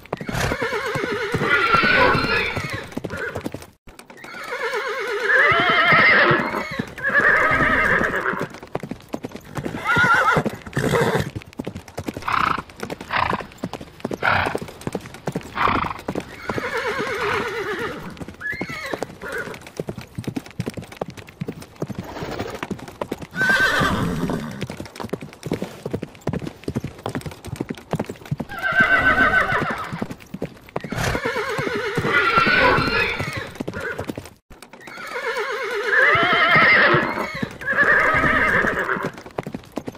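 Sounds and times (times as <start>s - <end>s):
horses whinnying: 0.0s - 11.4s, 12.1s - 19.7s, 21.8s - 24.8s, 28.4s - 30.2s, 30.8s - 39.3s
hooves clip-clopping: 0.0s - 39.9s.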